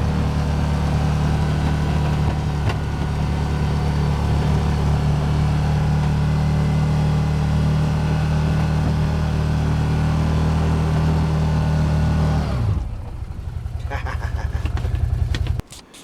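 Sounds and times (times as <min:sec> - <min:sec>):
engine running steadily: 0:00.0 - 0:15.6.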